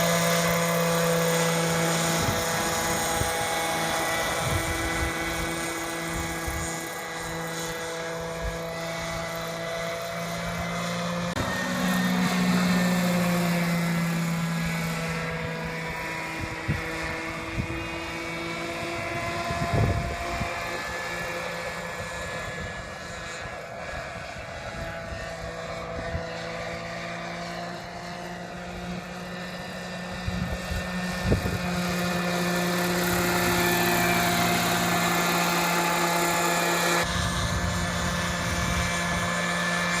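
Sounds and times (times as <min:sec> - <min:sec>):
model helicopter engine and rotors: 0:00.0 - 0:40.0.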